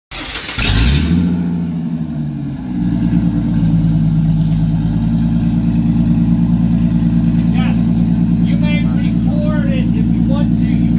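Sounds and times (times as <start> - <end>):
truck engine revving: 0.2 - 10.9.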